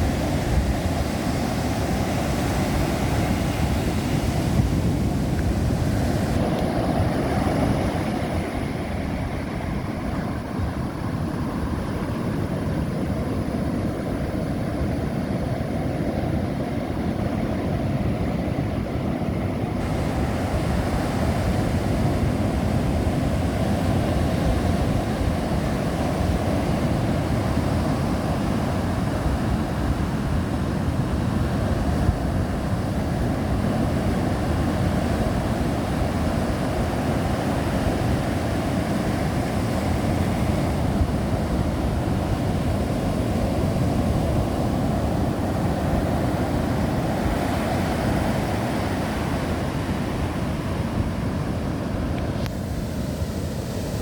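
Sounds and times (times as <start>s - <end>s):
surf washing: 0.0s - 54.0s
wind buffeting microphone: 0.0s - 54.0s.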